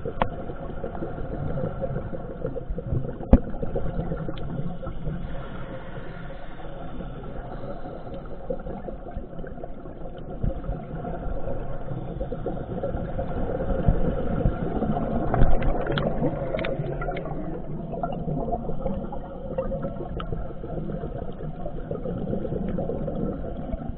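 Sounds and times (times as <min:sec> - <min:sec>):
divers exhaling bubbles: 0:00.0 - 0:05.7, 0:07.1 - 0:23.9
underwater rumble: 0:00.0 - 0:23.9.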